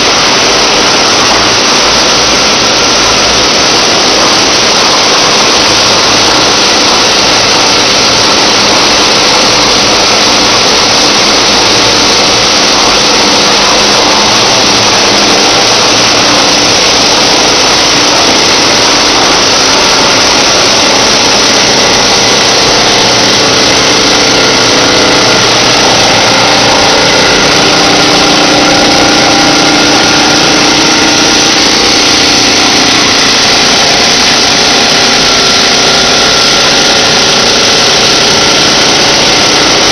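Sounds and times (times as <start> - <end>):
recycling machinery din: 0.0 - 39.9
steady machine tones: 0.0 - 39.9.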